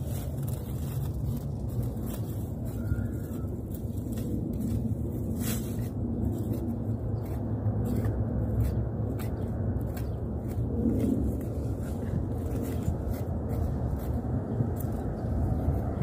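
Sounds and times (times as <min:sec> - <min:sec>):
knife scraping through soil: 0:00.0 - 0:16.0
low background rumble: 0:00.0 - 0:16.0.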